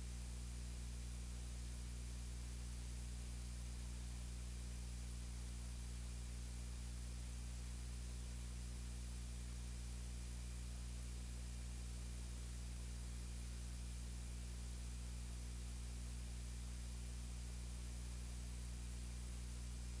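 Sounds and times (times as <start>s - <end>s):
constant hiss: 0.0s - 20.0s
low electrical hum: 0.0s - 20.0s.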